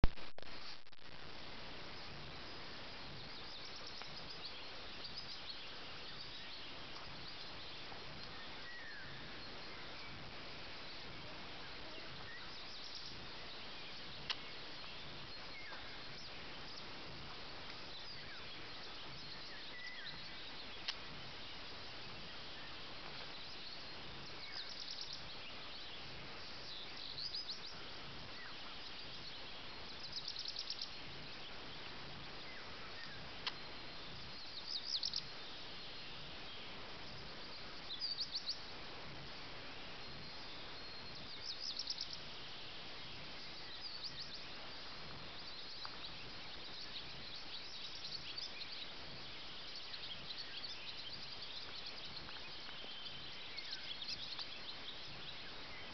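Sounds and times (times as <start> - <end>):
outdoor background hiss: 0.0 - 55.9
birds chirping and trilling: 2.0 - 38.7, 40.0 - 55.9.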